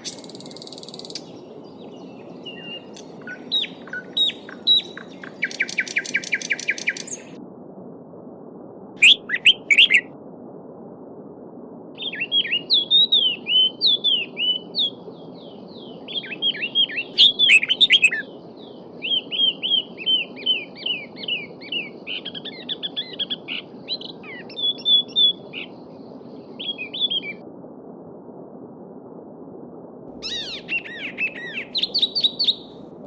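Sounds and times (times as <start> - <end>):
songbird chirping: 0.0 - 7.4, 9.0 - 10.1, 12.0 - 27.4, 30.2 - 32.9.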